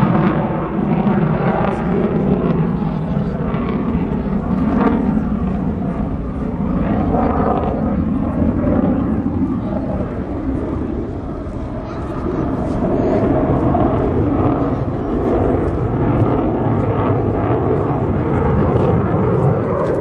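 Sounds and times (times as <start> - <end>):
jet engine roar overhead: 0.0 - 20.0.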